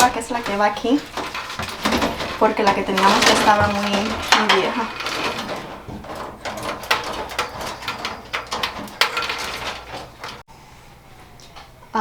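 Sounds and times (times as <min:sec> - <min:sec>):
clicks and knocks of tools: 0:00.0 - 0:10.5.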